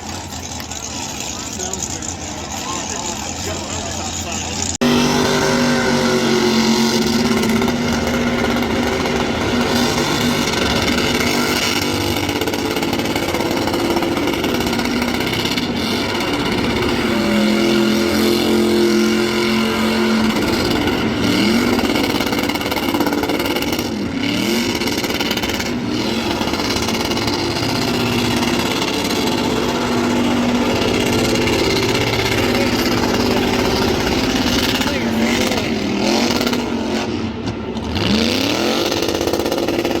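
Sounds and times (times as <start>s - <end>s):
car engine revving high: 0.0s - 40.0s.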